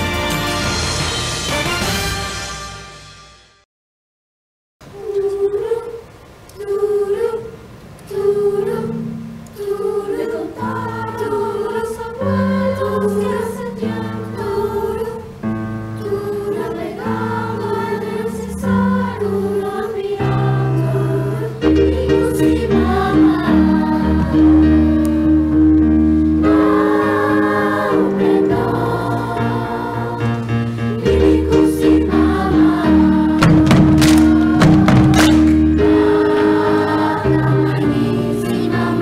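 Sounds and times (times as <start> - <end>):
choir singing: 4.9 - 25.7, 26.4 - 39.0.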